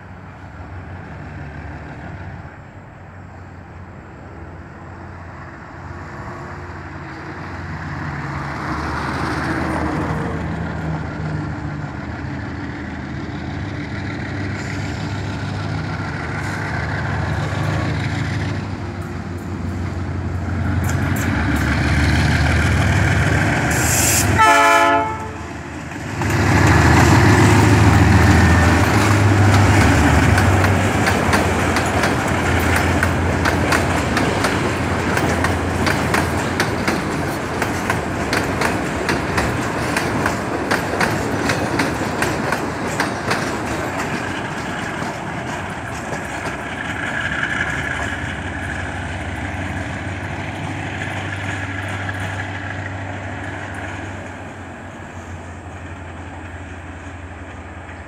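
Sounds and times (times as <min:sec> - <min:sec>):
diesel locomotive engine passing: 0:00.0 - 0:58.0
rail wheels clattering: 0:05.3 - 0:58.0.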